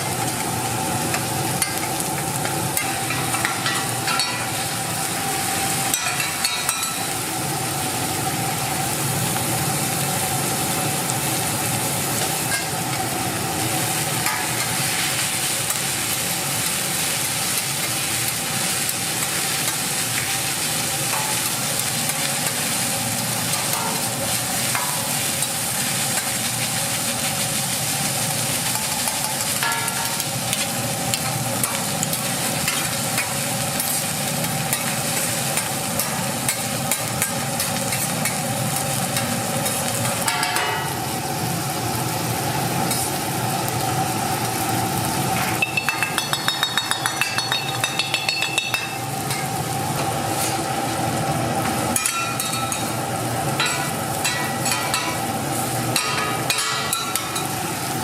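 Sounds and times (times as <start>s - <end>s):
rice sizzling in a hot pan: 0.0s - 58.0s
steady mechanical hum: 0.0s - 58.0s.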